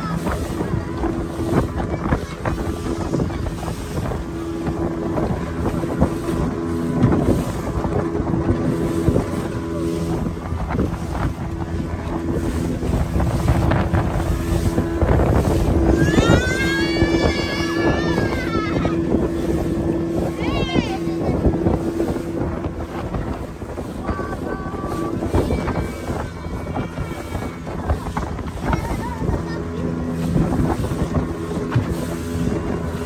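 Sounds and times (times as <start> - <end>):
hull knocking on waves: 0.0 - 33.0
motorboat engine running: 0.0 - 33.0
water rushing and spray: 0.0 - 33.0
wind buffeting microphone: 0.0 - 33.0.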